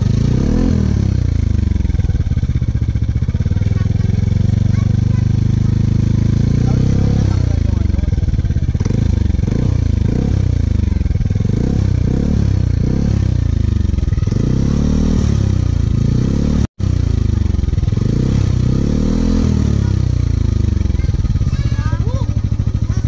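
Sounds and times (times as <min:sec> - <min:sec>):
scooter engine revving: 0:00.0 - 0:23.0.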